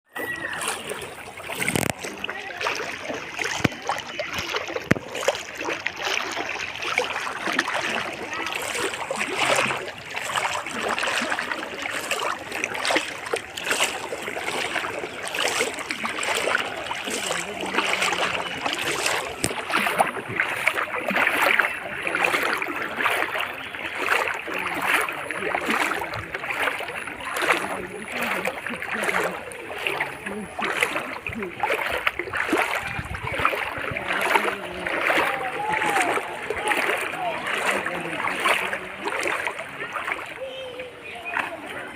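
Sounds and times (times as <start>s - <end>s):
floodwater rushing: 0.1s - 41.9s
water splashing: 0.1s - 41.9s.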